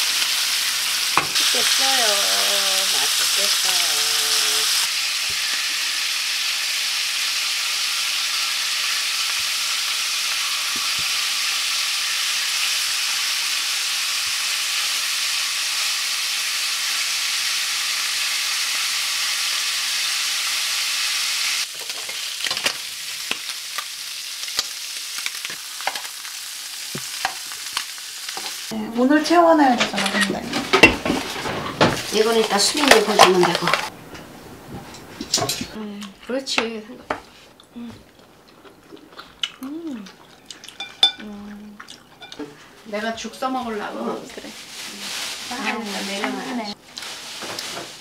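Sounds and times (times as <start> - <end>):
food sizzling in a pan: 0.0 - 29.8, 30.6 - 33.9, 42.0 - 48.0.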